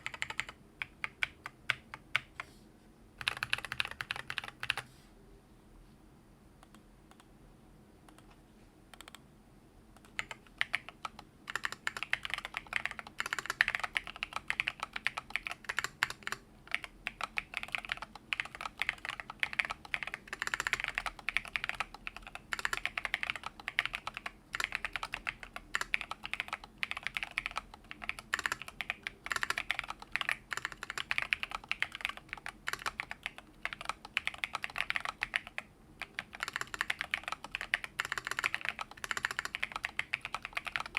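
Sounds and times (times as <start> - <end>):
mechanical keyboard typing: 0.0 - 2.4, 3.2 - 4.8, 9.0 - 9.2, 10.0 - 40.9.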